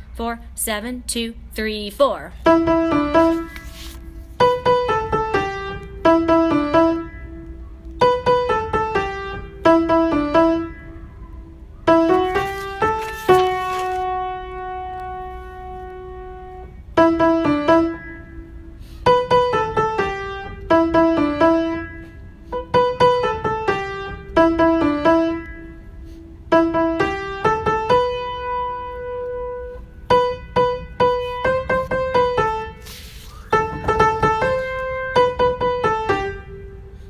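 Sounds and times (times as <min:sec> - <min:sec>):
piano music: 0:02.4 - 0:37.0.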